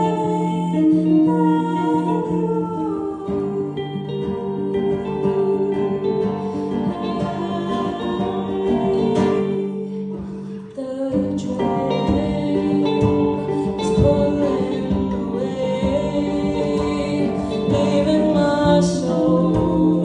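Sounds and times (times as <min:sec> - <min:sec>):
live band with singing: 0:00.0 - 0:20.0.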